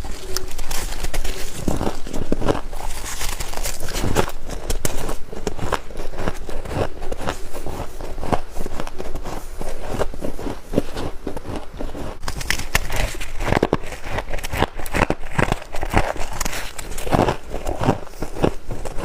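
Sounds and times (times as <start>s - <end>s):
chewing and crunching frost: 0.0s - 19.0s.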